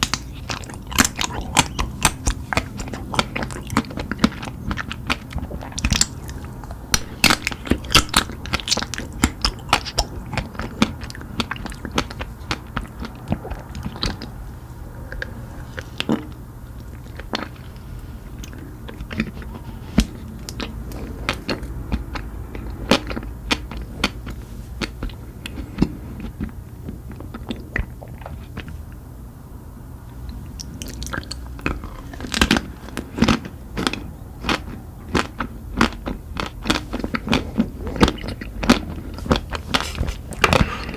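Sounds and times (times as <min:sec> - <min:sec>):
crunchy chewing: 0:00.0 - 0:29.0, 0:30.2 - 0:40.9
low steady hum: 0:00.0 - 0:40.9.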